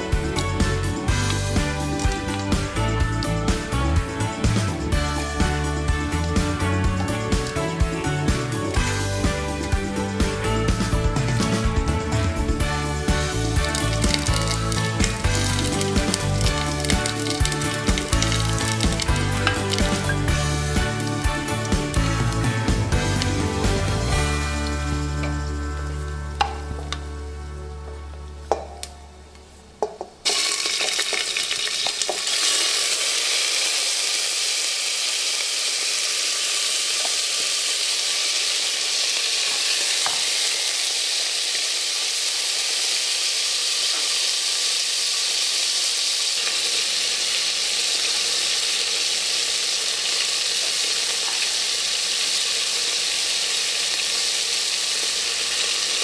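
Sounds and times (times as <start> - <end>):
food sizzling in hot oil: 0.0 - 11.7, 12.4 - 26.4, 30.2 - 56.0.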